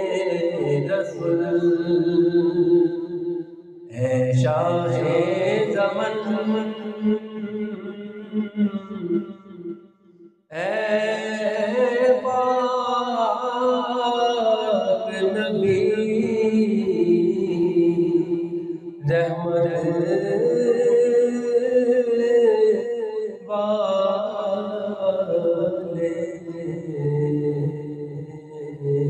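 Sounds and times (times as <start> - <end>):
man singing unaccompanied: 0.0 - 3.0, 3.9 - 9.2, 10.5 - 29.0.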